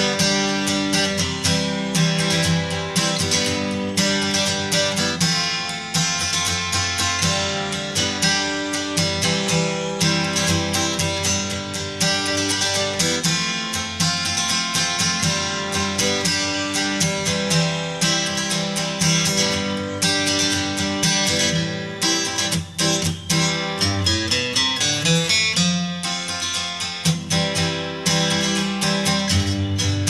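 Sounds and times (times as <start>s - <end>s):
quick guitar strumming: 0.0s - 30.0s.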